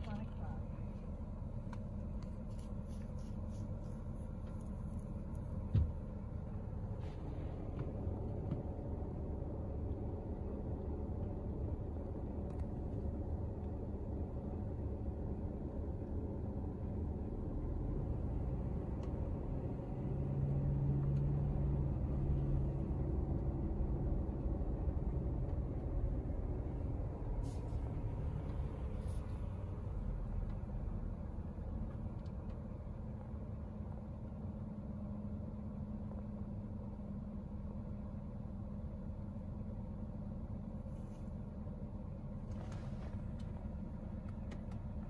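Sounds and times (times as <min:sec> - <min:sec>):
car engine running inside cabin: 0:00.0 - 0:45.0.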